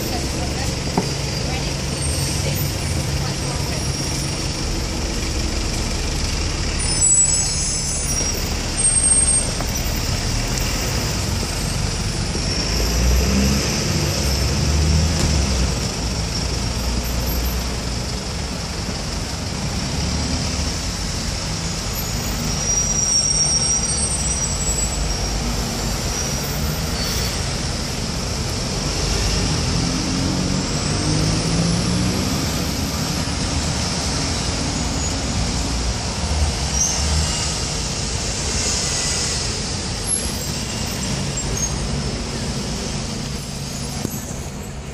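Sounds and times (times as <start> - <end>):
bus pulling away: 0.0 - 44.9
cars passing: 0.0 - 44.9
traffic rumble: 0.0 - 44.9.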